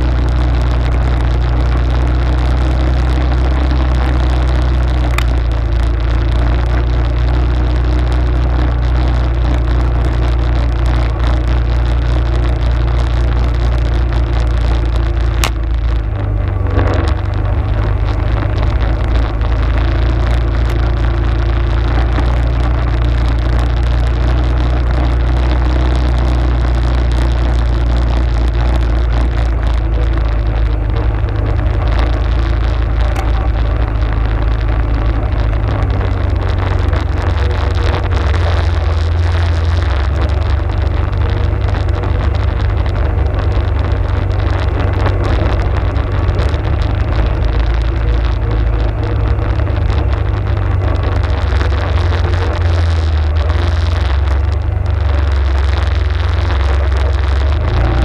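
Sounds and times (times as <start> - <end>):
atv engine rumbling: 0.0 - 58.0.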